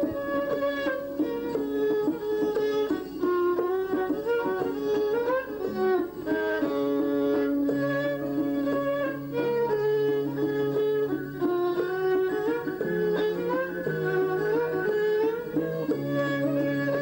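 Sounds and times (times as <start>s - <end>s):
plucked string instrumental music: 0.0s - 17.0s.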